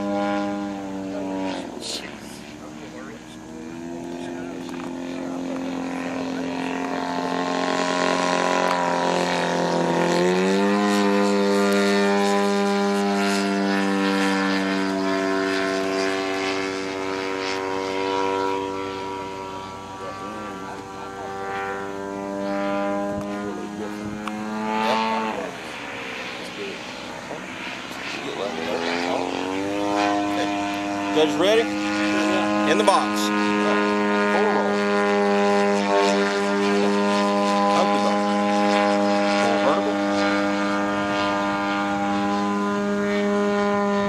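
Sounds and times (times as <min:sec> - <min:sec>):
model plane engine droning: 0:00.0 - 0:44.0.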